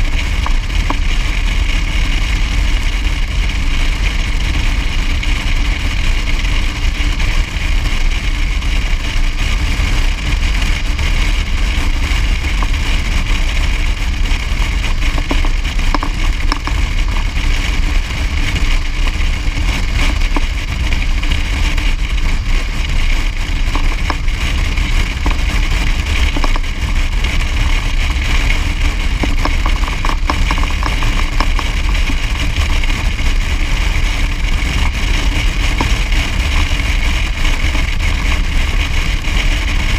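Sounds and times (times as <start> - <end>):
vehicle engine driving on road: 0.0 - 39.9.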